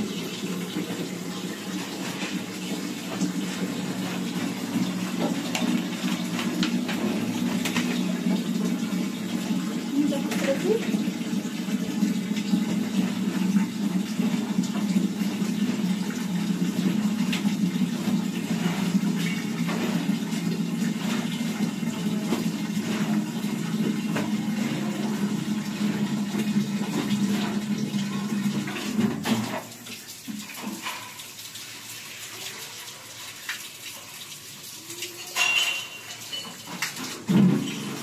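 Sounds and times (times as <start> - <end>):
water pouring: 0.0 - 38.0.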